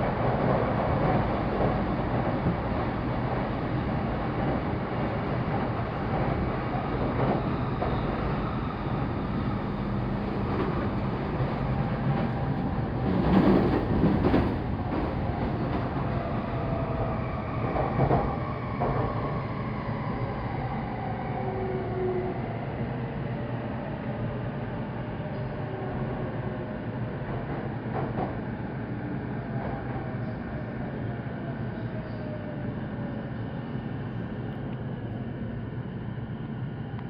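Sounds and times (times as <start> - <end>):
train wheels rumbling on rail: 0.0 - 32.4.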